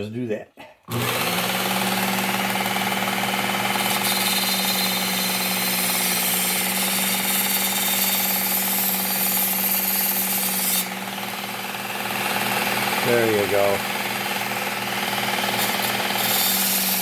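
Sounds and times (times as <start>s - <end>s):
belt sharpener motor hum: 0.9s - 17.0s.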